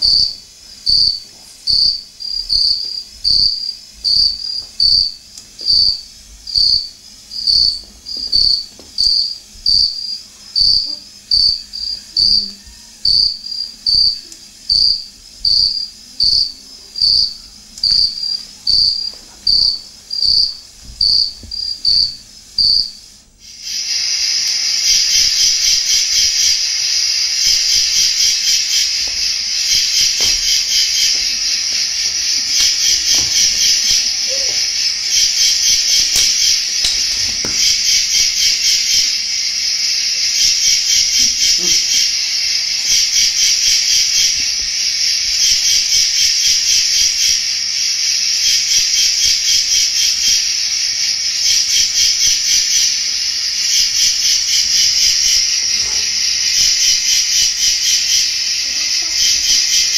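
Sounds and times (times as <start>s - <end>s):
crickets chirping: 0.0s - 59.9s
dense insect trill: 0.0s - 59.9s.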